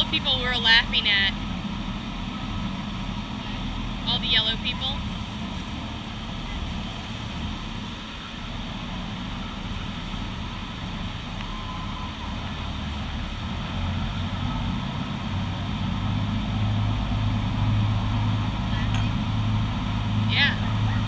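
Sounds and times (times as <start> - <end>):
boat engine humming: 0.0 - 21.0
churning water rushing: 0.0 - 21.0
wind: 0.0 - 21.0.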